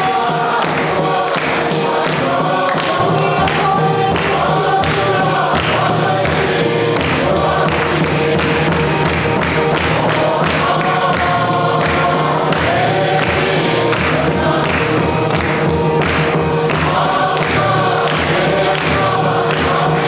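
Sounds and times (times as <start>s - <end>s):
congregation singing a hymn: 0.0s - 20.0s
hand-clapping: 0.0s - 20.0s.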